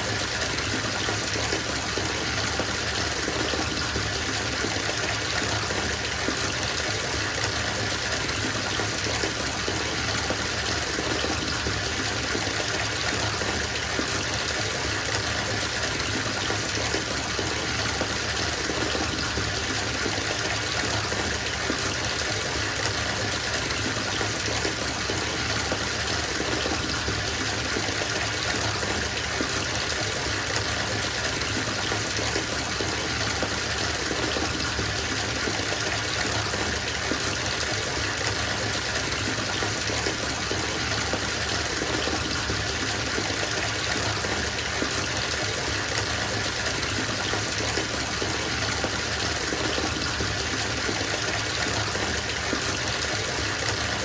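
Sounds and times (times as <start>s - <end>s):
water pouring into bathtub: 0.0s - 54.0s.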